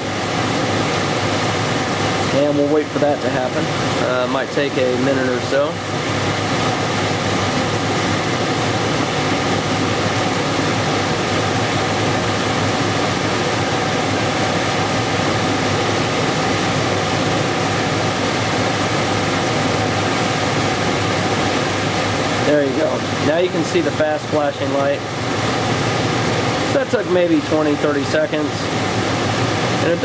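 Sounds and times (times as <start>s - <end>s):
faint constant hum: 0.0s - 30.0s
furnace blower air rush: 0.0s - 30.0s.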